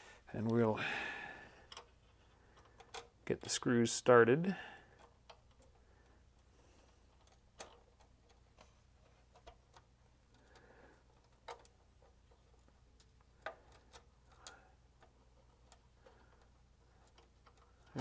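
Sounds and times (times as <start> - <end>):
small screws clicking on metal: 1.7 - 3.2, 4.9 - 18.0.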